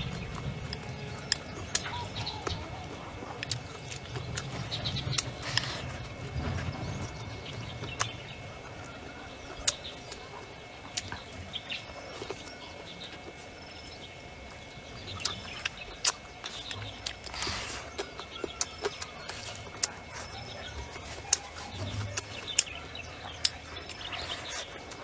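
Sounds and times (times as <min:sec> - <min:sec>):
birds chirping: 0:00.0 - 0:25.0
outdoor background noise: 0:00.0 - 0:25.0.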